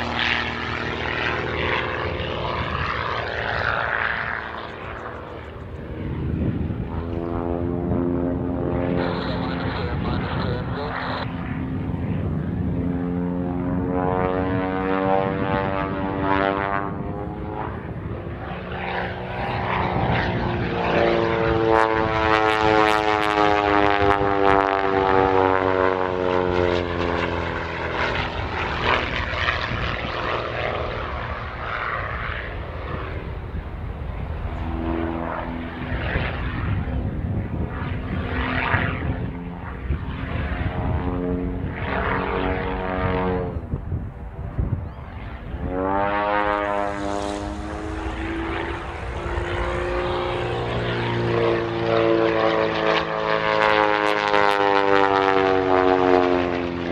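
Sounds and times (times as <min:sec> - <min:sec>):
propeller plane engine droning: 0:00.0 - 0:56.9.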